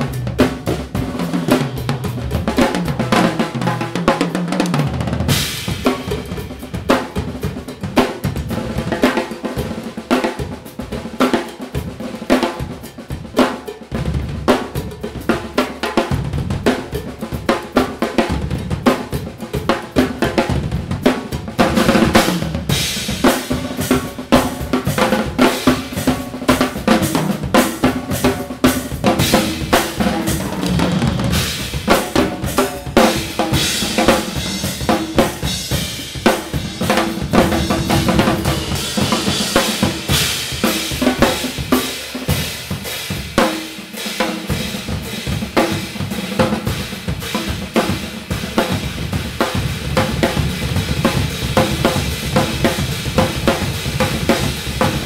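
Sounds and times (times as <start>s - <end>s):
two drum kits playing: 0.0s - 55.0s.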